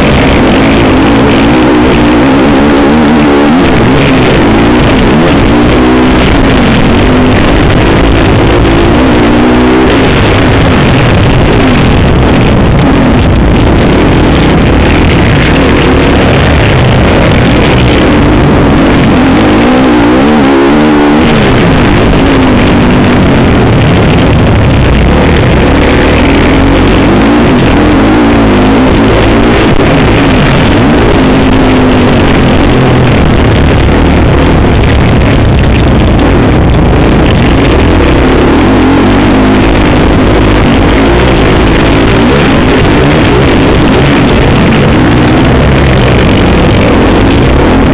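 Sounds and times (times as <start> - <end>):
motorbike engine revving: 0.0 - 47.9
wind noise: 0.0 - 47.9.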